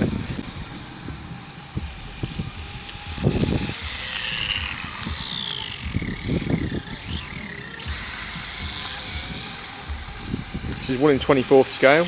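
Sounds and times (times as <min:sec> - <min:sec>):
electric motor whine: 0:00.0 - 0:12.0
low rumbling bursts: 0:00.0 - 0:12.0.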